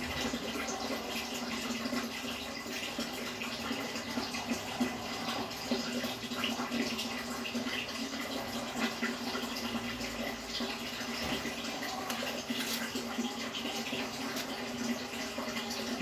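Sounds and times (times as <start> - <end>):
aquarium water bubbling: 0.0 - 16.0
low hum of water circulation: 0.0 - 16.0.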